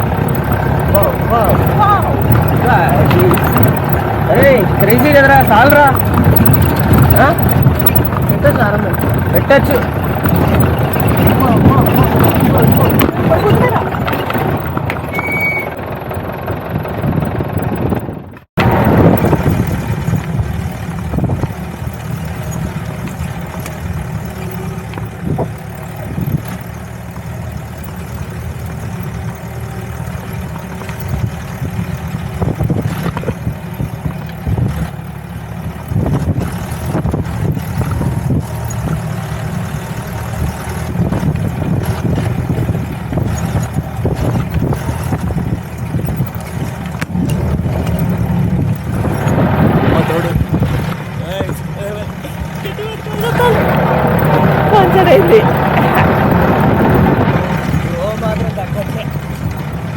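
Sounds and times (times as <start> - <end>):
jeep engine droning: 0.0 - 59.9
knocks and rattles: 0.0 - 59.9.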